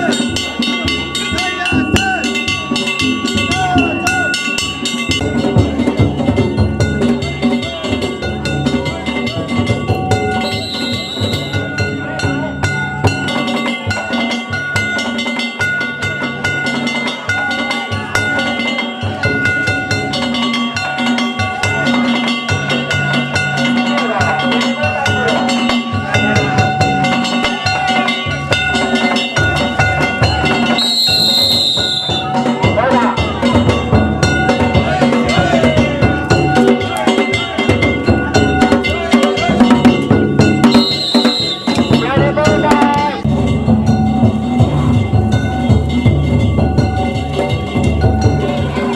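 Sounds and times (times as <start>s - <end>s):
ringing hand-struck gongs: 0.0s - 42.6s
taiko drum: 0.0s - 48.9s.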